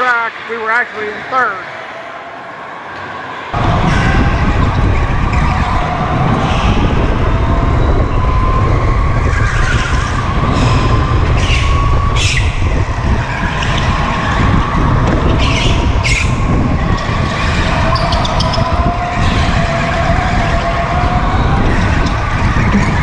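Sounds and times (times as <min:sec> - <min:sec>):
go-kart engine whine and rumble: 0:03.5 - 0:23.0.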